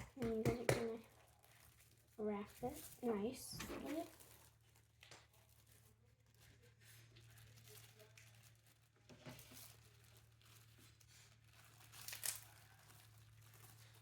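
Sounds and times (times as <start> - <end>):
crinkling wrapping: 0.0 - 14.0.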